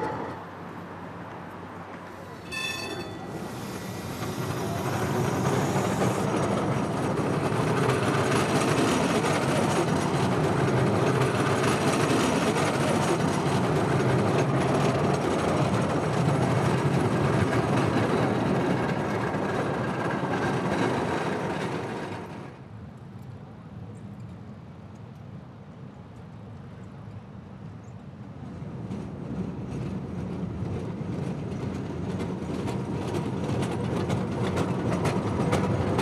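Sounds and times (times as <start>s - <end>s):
tram wheels running on rails: 0.0s - 23.4s, 28.4s - 36.0s.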